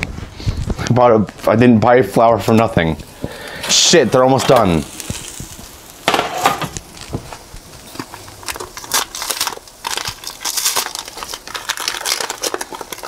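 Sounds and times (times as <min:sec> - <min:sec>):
aluminium foil crinkling: 0:02.4 - 0:13.0.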